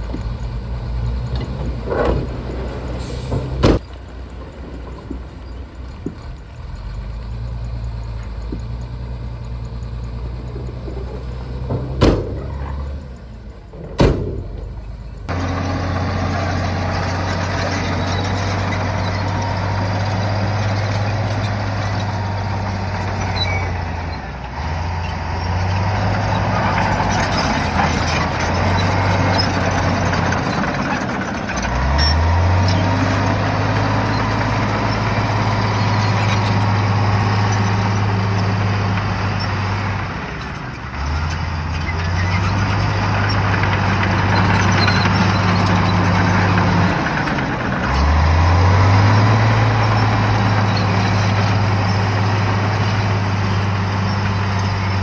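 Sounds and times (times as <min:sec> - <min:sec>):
bulldozer diesel engine revving: 0:00.0 - 0:03.8, 0:05.8 - 0:55.0.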